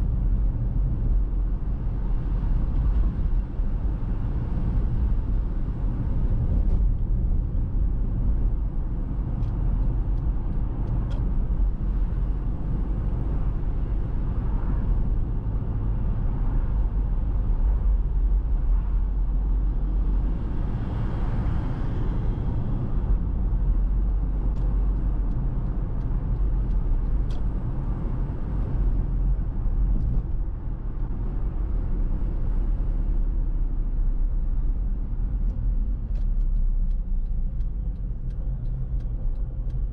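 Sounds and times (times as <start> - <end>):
road rumble and tyre noise: 0.0 - 39.9.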